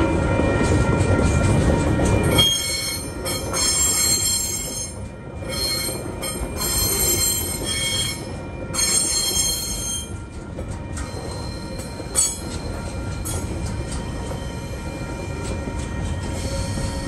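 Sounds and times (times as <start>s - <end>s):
freight train rumbling past: 0.0s - 17.0s
train wheels squealing: 2.2s - 10.2s, 11.0s - 17.0s.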